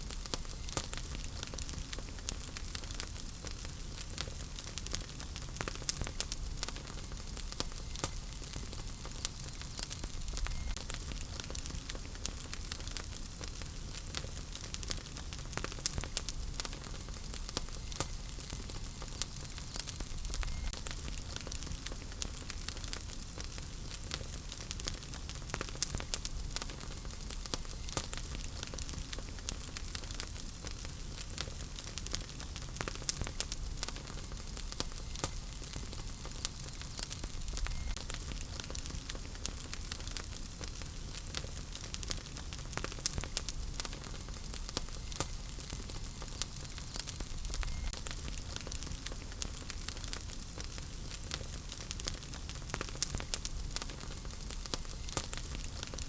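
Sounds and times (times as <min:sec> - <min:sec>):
fire hissing: 0:00.0 - 0:56.0
low rumble of fire: 0:00.0 - 0:56.0
wood fire crackling: 0:00.0 - 0:56.0.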